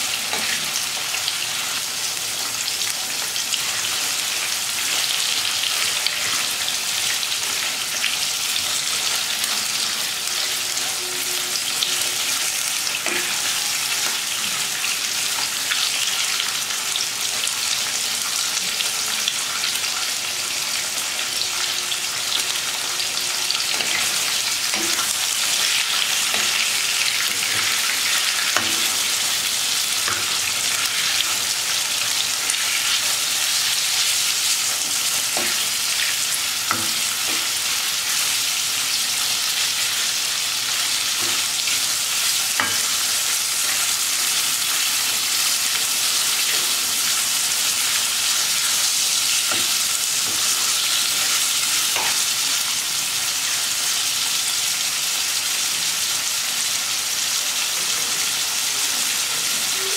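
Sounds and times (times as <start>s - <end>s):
liver sizzling in a pan: 0.0s - 59.9s.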